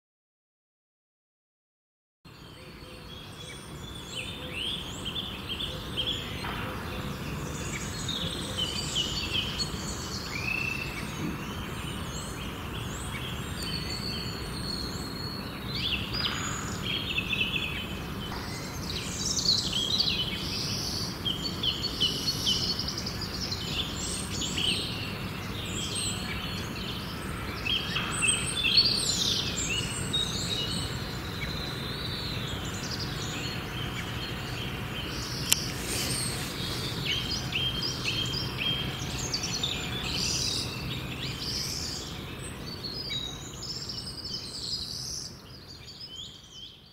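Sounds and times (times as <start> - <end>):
small birds chirping and singing: 2.3 - 46.9
steady low background noise: 2.3 - 46.9.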